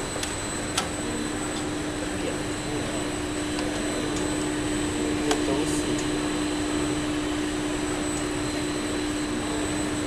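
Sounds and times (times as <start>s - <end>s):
machine motor hum: 0.0s - 10.0s.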